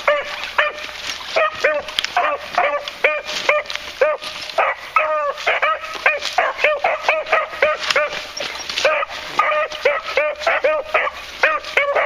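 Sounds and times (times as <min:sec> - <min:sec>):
hounds baying in yelps: 0:00.0 - 0:12.0.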